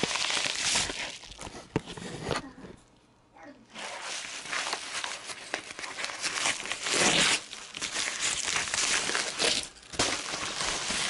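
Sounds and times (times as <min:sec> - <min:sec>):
paper mailer crinkling and tearing: 0:00.0 - 0:02.0, 0:03.8 - 0:11.0.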